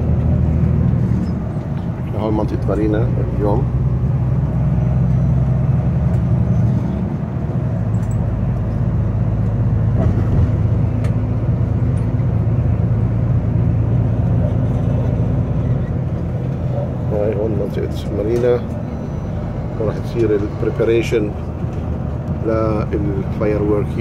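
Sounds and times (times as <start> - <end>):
bus engine drone: 0.0 - 24.0
road noise: 0.0 - 24.0.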